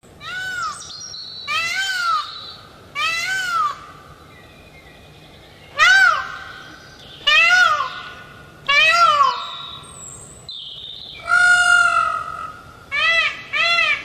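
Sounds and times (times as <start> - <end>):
peacock calling: 0.2 - 4.2, 5.7 - 10.3, 11.2 - 14.0.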